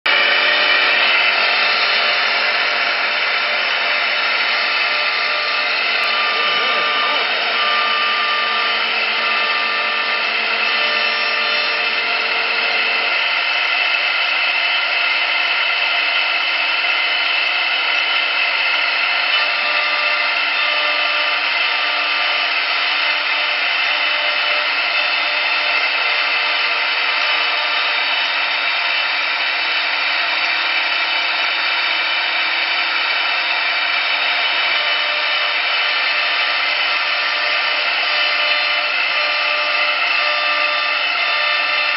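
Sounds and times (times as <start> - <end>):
router spindle high whine: 0.0 - 41.9.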